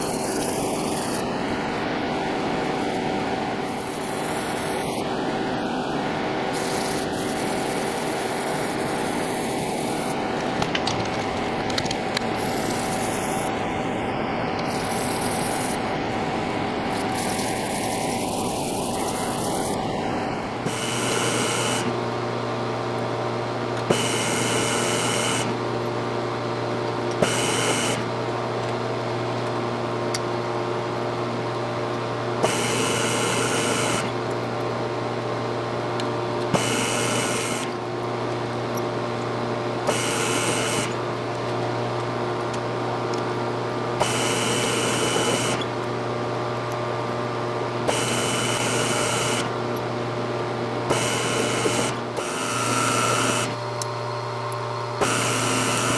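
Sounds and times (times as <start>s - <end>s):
machine tool motor hum: 0.0s - 55.9s.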